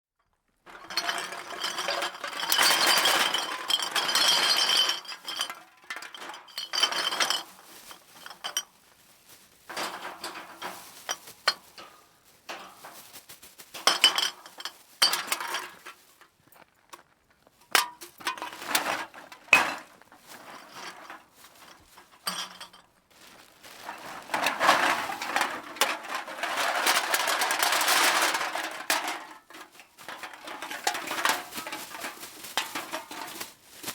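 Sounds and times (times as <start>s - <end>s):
metal cans dumped clattering: 0.6s - 8.7s, 9.6s - 13.2s, 13.8s - 16.3s, 17.7s - 33.9s.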